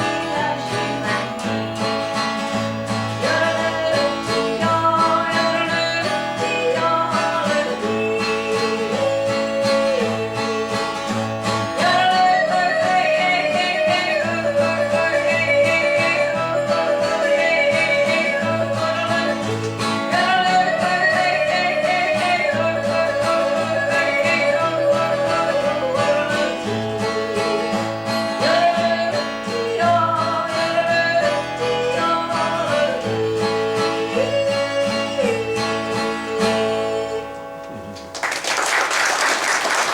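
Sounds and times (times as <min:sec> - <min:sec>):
person singing: 0:00.0 - 0:37.9
guitars and plucked strings: 0:00.0 - 0:38.4.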